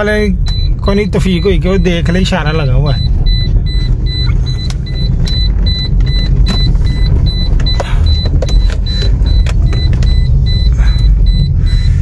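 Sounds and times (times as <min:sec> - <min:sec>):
car driving rumble: 0:00.0 - 0:12.0
turn signal ticking: 0:00.0 - 0:12.0.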